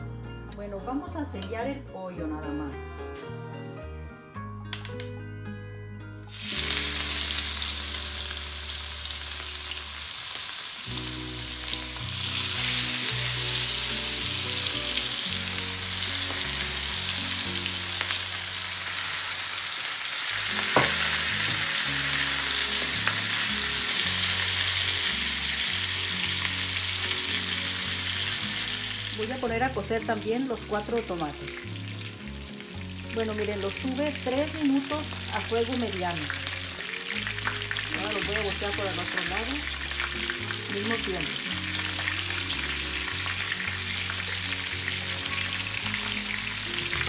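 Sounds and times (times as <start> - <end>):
chicken sizzling in hot oil: 6.2 - 47.0.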